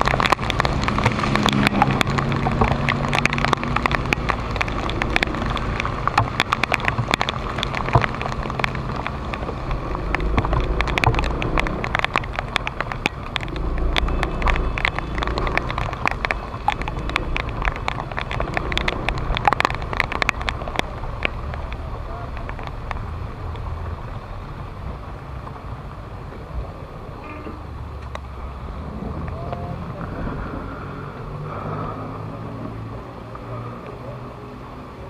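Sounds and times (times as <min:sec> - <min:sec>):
rain tapping on camera: 0:00.0 - 0:35.0
tyres on wet road: 0:00.0 - 0:35.0.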